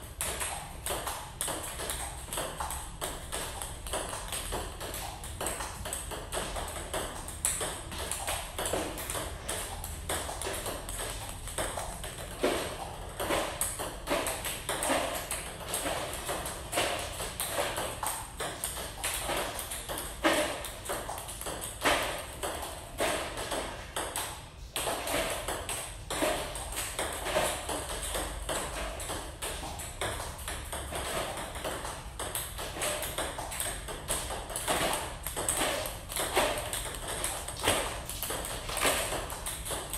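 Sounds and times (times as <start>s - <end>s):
ping pong ball clicking off paddles: 0.0s - 39.9s
ball bouncing on table: 0.1s - 39.9s.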